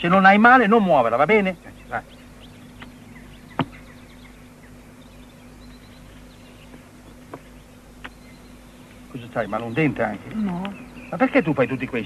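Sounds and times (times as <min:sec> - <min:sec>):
faint birds chirping: 0:00.0 - 0:12.0
low hum: 0:00.0 - 0:12.0.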